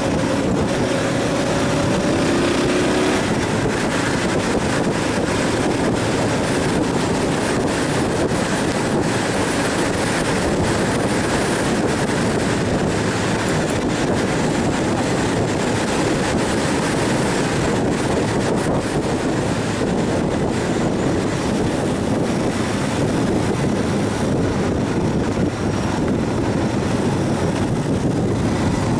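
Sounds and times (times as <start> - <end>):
motorcycle engine: 0.0 - 28.9
wind rushing on microphone: 0.0 - 28.9.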